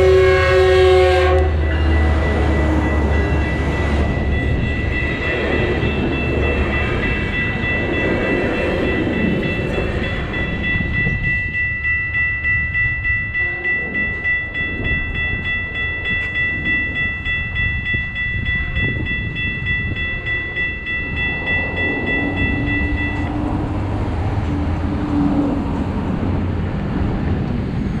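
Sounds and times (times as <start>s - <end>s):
crossing bell ringing: 0.0s - 26.3s
passenger train rumbling: 0.0s - 28.0s.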